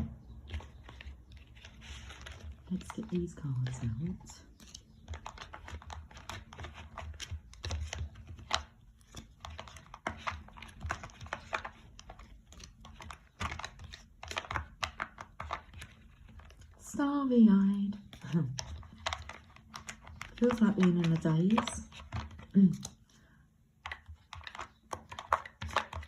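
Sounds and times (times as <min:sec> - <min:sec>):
cards being shuffled: 0:00.0 - 0:16.8, 0:18.0 - 0:23.1, 0:23.8 - 0:26.0.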